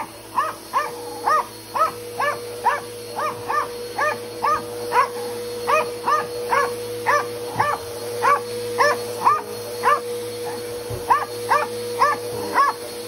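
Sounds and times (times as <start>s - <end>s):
small dog barking: 0.0s - 12.9s
vacuum cleaner motor humming: 0.0s - 13.0s.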